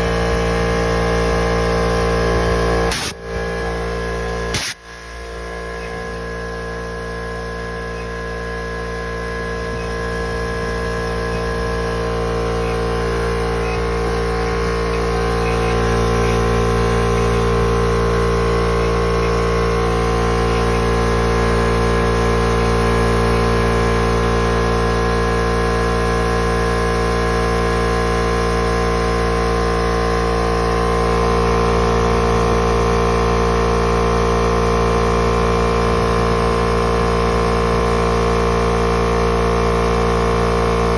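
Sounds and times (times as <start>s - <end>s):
air compressor droning: 0.0s - 40.9s.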